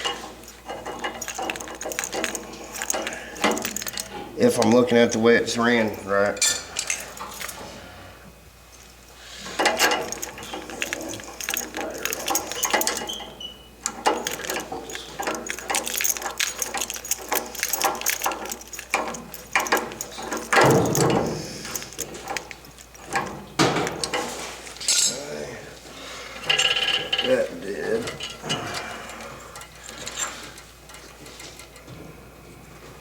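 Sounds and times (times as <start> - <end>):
metal fittings clinking: 0.0 - 7.7, 8.7 - 25.3, 26.4 - 32.0.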